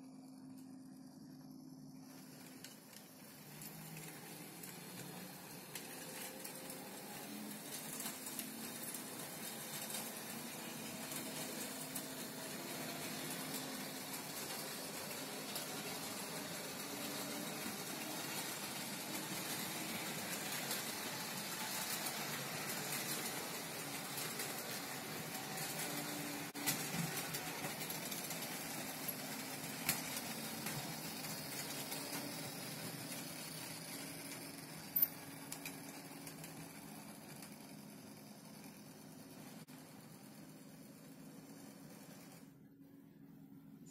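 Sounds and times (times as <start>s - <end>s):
model train motor humming: 1.0s - 42.5s
wheels rattling over rails: 2.1s - 42.5s.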